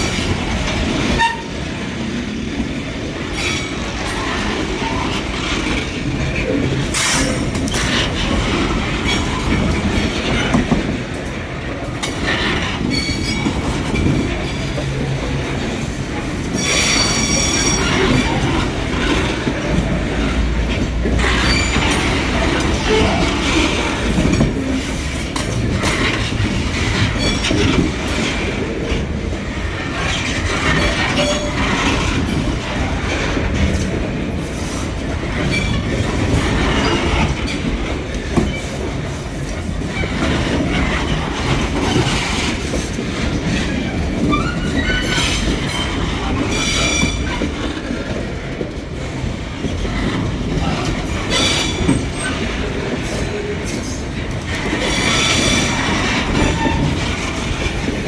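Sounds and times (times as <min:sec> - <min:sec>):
wheels clacking over rail joints: 0:00.0 - 0:58.0.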